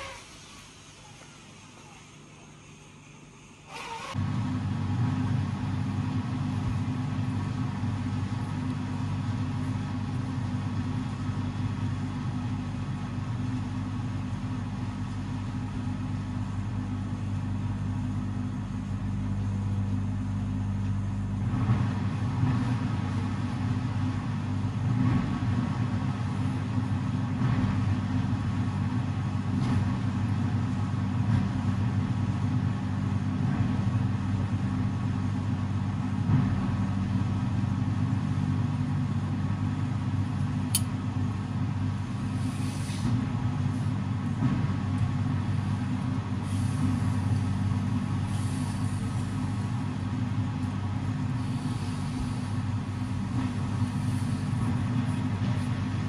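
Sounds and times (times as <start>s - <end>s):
machinery motor hum: 0.0s - 56.0s.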